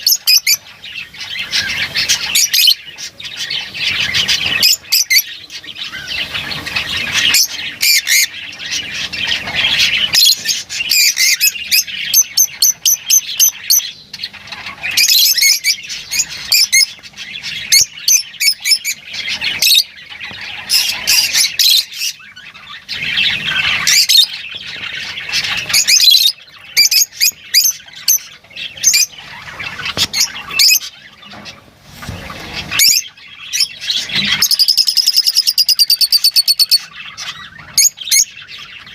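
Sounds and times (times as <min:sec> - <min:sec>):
lovebirds chattering and squawking: 0:00.0 - 0:38.9.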